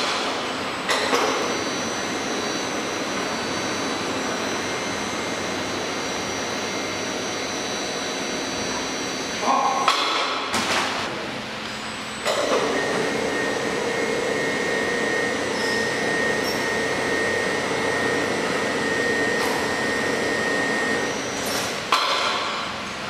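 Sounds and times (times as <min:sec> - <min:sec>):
wrapping machine motors humming: 0:00.0 - 0:23.0.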